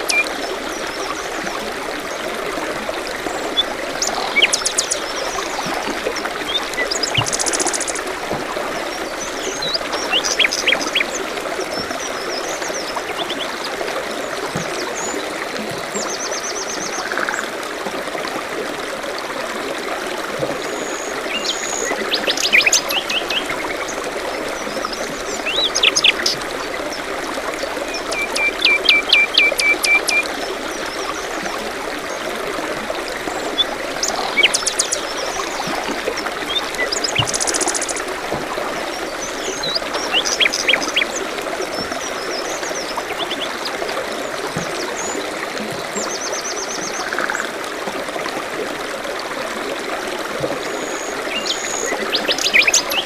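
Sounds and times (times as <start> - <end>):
stream running: 0.0 - 53.0.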